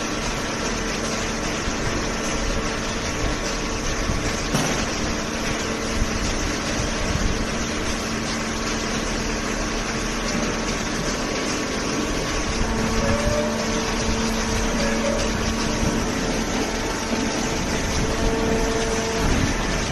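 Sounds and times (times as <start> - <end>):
hydraulic baling machine hum: 0.0 - 19.9.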